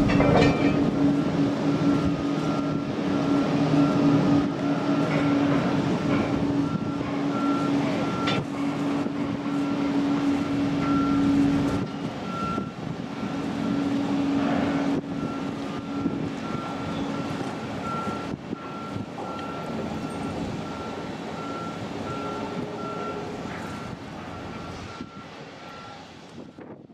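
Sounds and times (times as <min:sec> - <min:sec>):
boat engine hum: 0:00.0 - 0:26.5.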